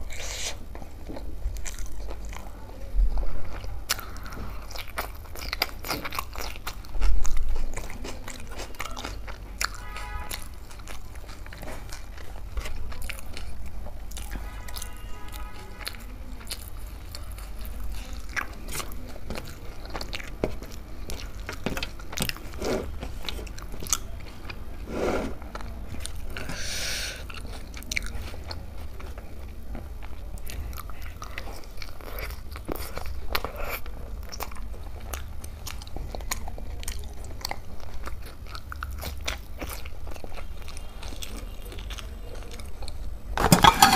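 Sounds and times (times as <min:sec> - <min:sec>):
chewing and crunching food: 0:00.0 - 0:43.9.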